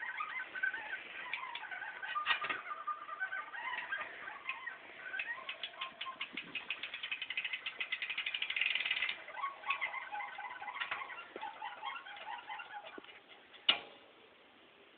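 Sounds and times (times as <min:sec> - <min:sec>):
bicycle drivetrain clicking: 0:00.0 - 0:13.6.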